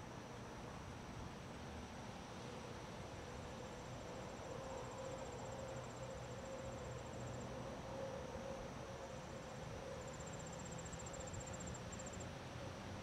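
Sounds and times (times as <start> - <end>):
crickets trilling faintly: 0.0 - 13.0.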